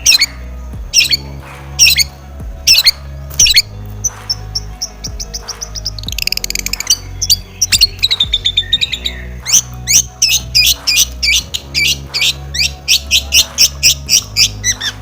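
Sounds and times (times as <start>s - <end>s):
background music: 0.0s - 15.0s
bird singing high chirps: 0.0s - 15.0s.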